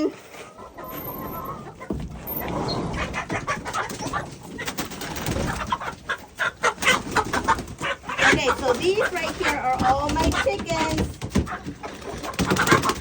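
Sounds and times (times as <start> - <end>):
drawn-out chicken call: 0.0 - 10.8, 11.4 - 13.0
chickens clucking: 0.0 - 13.0
scratching and rustling: 0.0 - 13.0.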